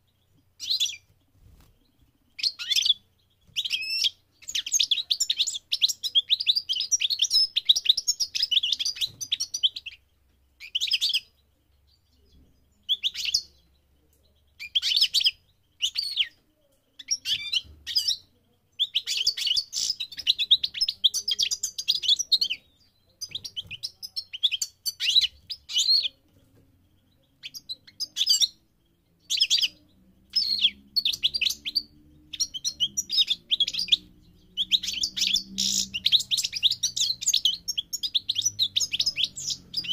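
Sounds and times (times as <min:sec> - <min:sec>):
bird twittering song: 0:00.0 - 0:39.9
faint low hum: 0:00.0 - 0:39.9.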